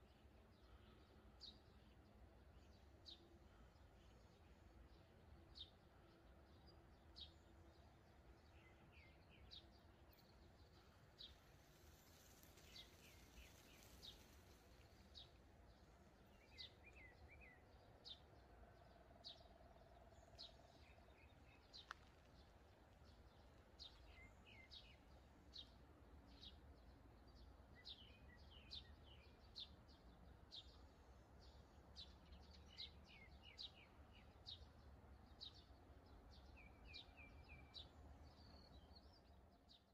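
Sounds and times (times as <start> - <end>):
low steady background rumble: 0.0 - 39.9.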